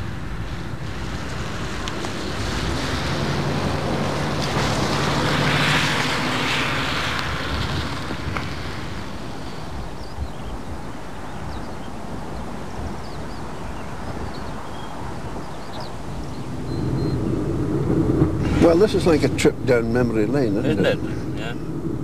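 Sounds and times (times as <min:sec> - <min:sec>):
car passing on wet road: 0:00.0 - 0:10.1, 0:10.7 - 0:22.0.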